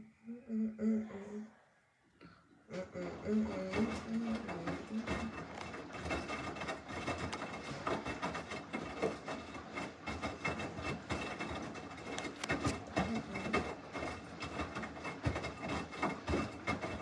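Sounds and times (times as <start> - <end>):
washing machine drum tumbling: 3.1 - 17.0.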